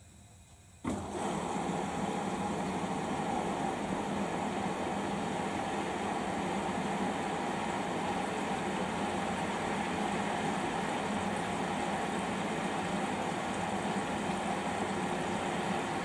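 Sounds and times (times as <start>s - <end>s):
washing machine humming: 0.7s - 16.0s.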